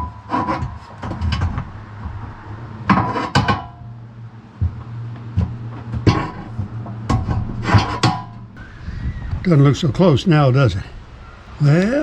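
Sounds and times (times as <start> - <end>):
log clanking on steel bed: 0.0 - 12.0
steady low hum: 0.0 - 12.0.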